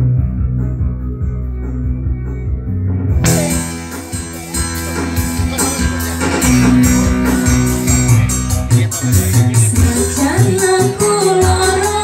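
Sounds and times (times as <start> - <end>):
bass line: 0.0 - 12.0
drums and cymbals: 0.0 - 12.0
electric guitar: 0.0 - 12.0.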